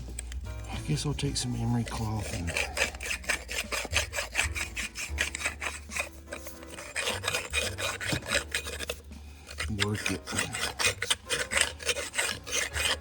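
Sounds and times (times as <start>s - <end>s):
emery cloth sanding metal: 0.0s - 13.0s.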